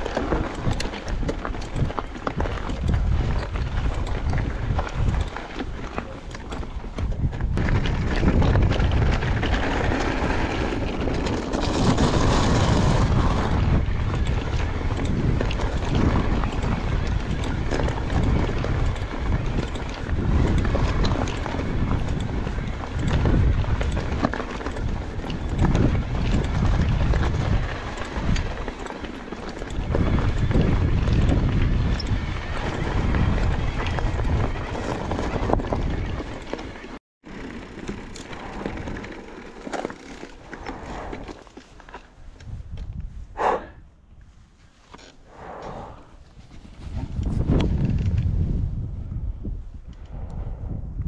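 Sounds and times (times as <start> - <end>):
wind on microphone: 0.0 - 36.6, 40.2 - 44.6, 45.2 - 51.0
tyre rumble: 0.0 - 43.8
bike rattles and clicks: 0.0 - 51.0.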